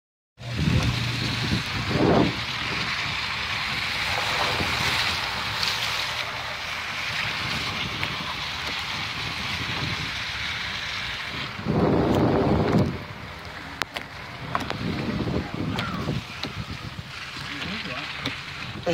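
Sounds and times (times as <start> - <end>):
wind rushing: 0.4 - 17.6
tyres on wet road: 0.4 - 18.9.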